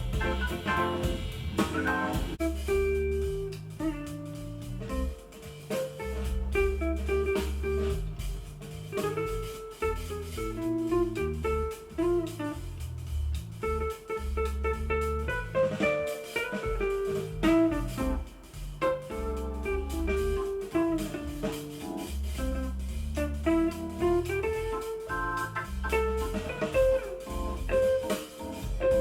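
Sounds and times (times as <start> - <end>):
deep bass line: 0.0 - 29.0.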